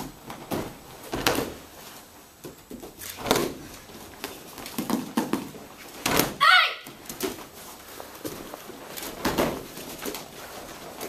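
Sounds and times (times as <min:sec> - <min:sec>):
bodies thudding on padded mat: 0:00.0 - 0:11.0.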